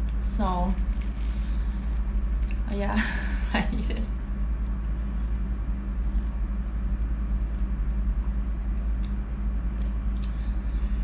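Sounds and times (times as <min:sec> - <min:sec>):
low hum: 0:00.0 - 0:11.0
low rumble: 0:00.0 - 0:11.0.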